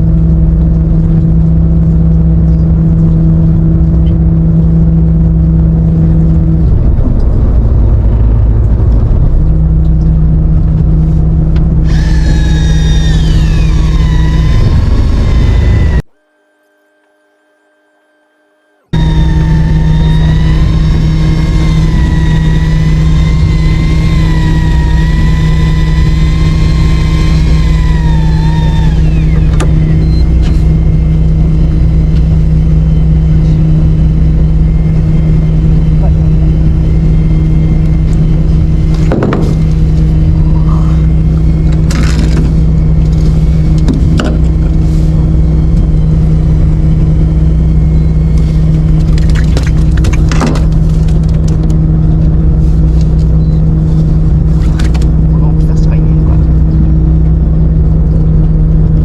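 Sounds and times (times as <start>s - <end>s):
boat engine humming: 0.0s - 59.0s
wavering high whine: 0.0s - 59.0s.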